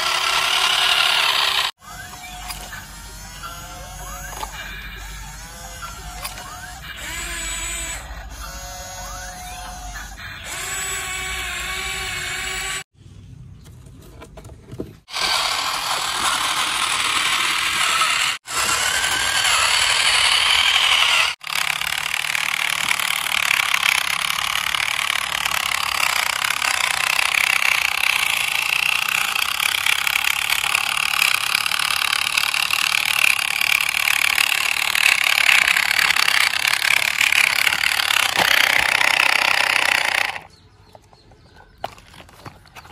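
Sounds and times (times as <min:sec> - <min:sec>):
small electric motors whirring: 0:00.0 - 0:12.9, 0:15.0 - 0:40.5.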